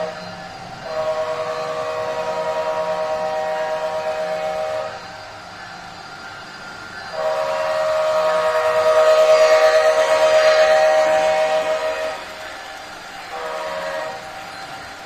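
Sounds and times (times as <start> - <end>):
diesel locomotive horn blasts: 0.0 - 5.3, 7.1 - 15.0.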